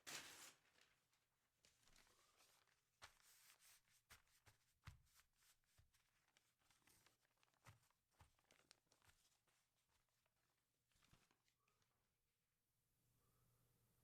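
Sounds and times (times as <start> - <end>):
soft rustles: 0.0 - 11.8.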